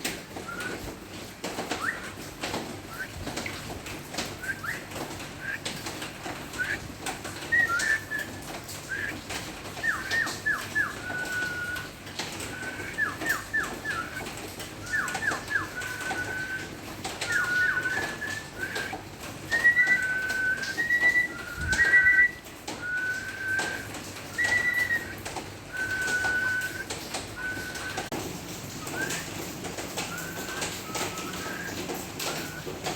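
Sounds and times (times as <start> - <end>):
myna bird whistling: 0.4 - 0.9, 1.7 - 2.3, 4.4 - 5.7, 6.6 - 28.1, 28.8 - 32.9.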